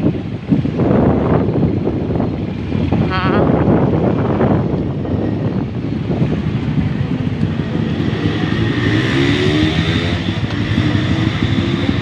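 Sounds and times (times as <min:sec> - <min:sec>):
motorcycle engine accelerating: 0:00.0 - 0:12.0
road noise: 0:00.0 - 0:12.0.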